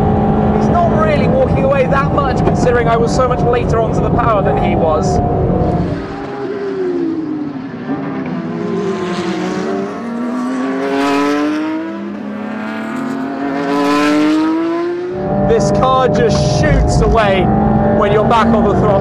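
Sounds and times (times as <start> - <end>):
race car engine at speed: 0.0 - 19.0.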